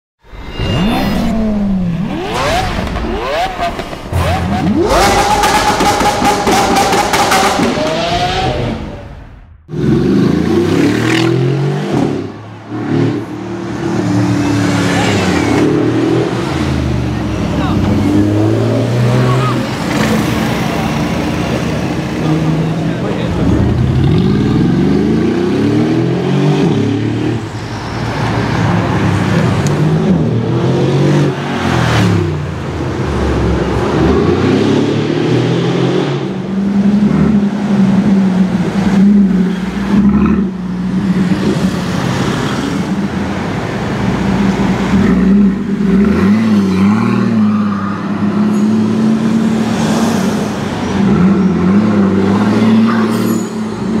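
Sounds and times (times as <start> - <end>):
car engine revving and accelerating: 0.6 - 9.1, 9.7 - 27.5, 28.2 - 54.0.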